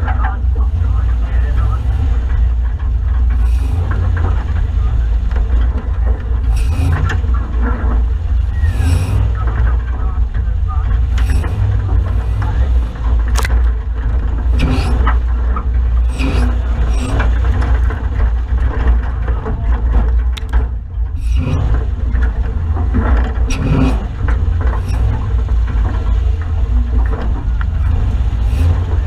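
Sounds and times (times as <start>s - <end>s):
off-road vehicle engine running: 0.0s - 29.0s
vehicle knocks and thumps: 0.0s - 29.0s.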